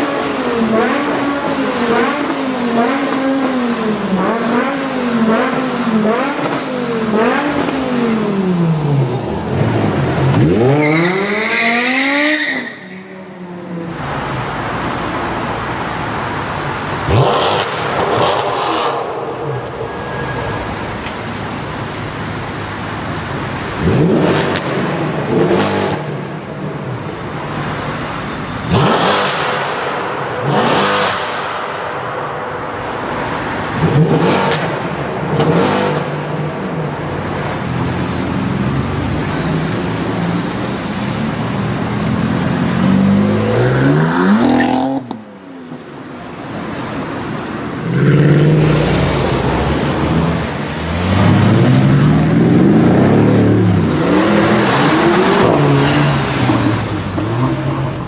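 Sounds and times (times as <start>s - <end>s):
car engines accelerating and revving: 0.0s - 58.0s.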